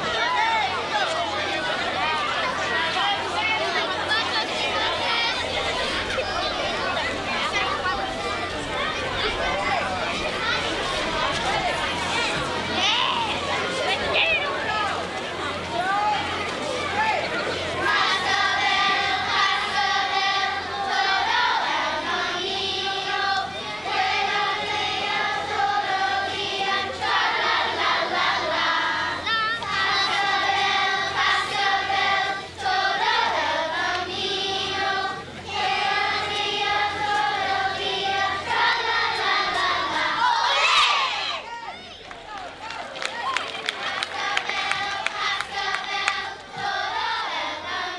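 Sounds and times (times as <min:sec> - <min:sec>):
children's choir singing: 0:00.0 - 0:41.8, 0:43.1 - 0:47.9.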